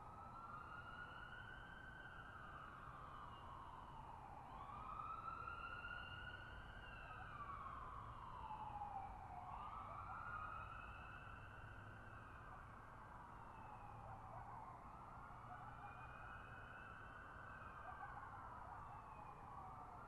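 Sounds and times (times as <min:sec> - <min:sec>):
faint siren wailing: 0:00.0 - 0:20.0.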